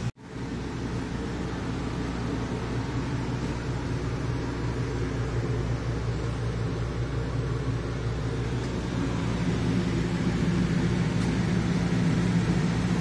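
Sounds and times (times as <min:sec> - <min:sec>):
machinery droning: 0:00.0 - 0:13.0.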